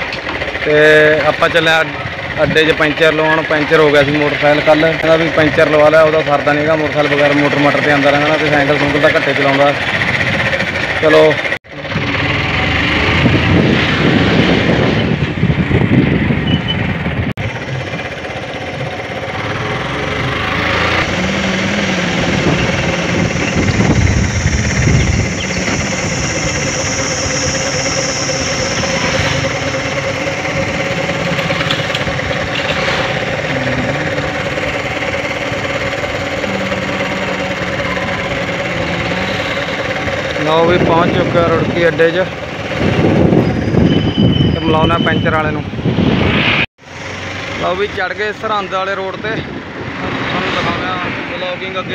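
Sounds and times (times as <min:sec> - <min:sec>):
motorcycle engine running: 0:00.0 - 0:44.9
road and wind noise: 0:00.0 - 0:51.9.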